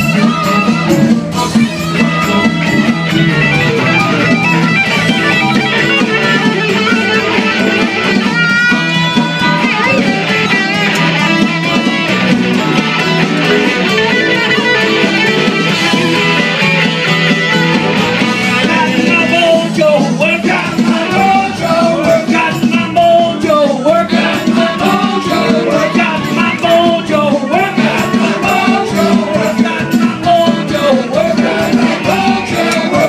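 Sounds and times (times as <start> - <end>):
electric guitar solo: 0.0 - 23.4, 24.0 - 33.0
bass and drums: 0.0 - 33.0.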